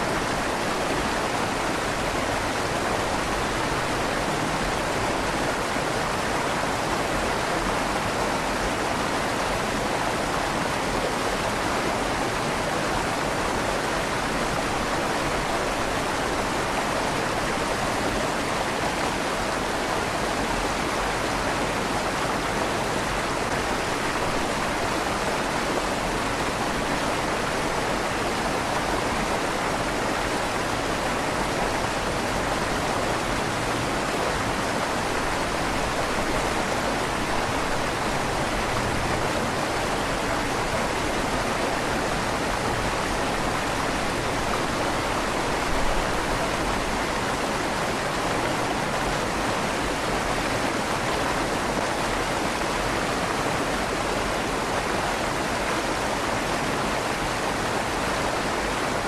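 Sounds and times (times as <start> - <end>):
river water rushing through tunnel: 0.0 - 59.0.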